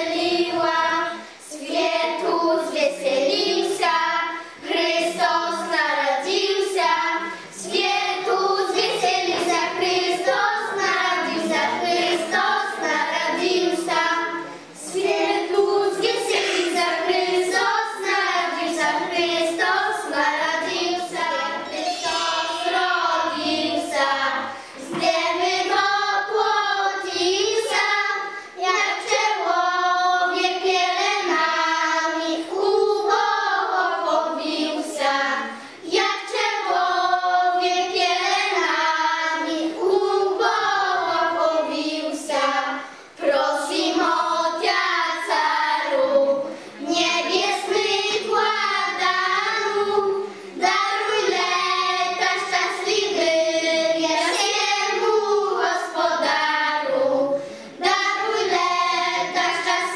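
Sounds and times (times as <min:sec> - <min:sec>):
children singing a carol: 0:00.0 - 0:59.9.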